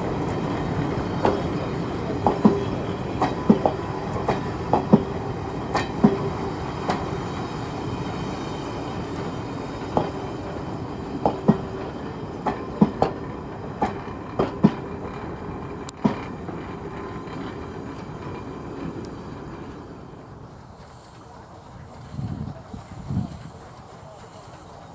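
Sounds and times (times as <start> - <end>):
train rumbling: 0.0 - 24.9.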